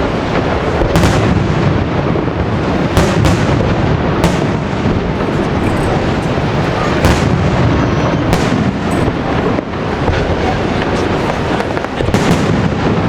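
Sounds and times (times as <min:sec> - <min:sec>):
rumble of firework bursts: 0:00.0 - 0:13.0
sharp firework bangs: 0:00.0 - 0:13.0.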